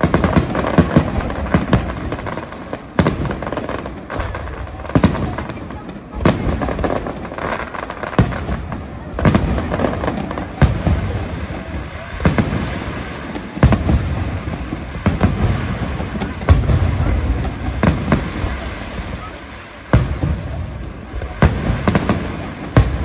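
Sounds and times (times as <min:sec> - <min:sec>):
fireworks bursting with rumble: 0:00.0 - 0:23.0.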